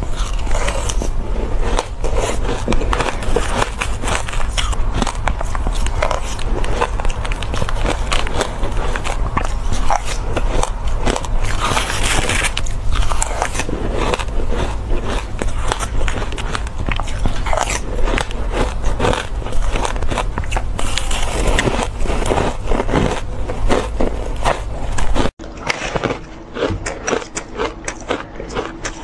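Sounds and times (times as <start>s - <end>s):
crunching and chewing shaved ice: 0.0s - 29.0s.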